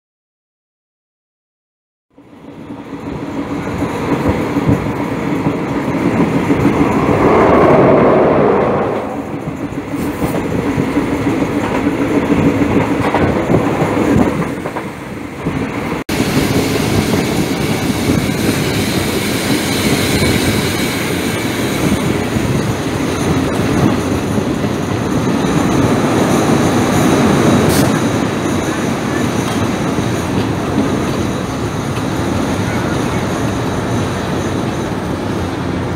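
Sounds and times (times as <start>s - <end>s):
train wheels rumbling on rails: 2.2s - 35.9s.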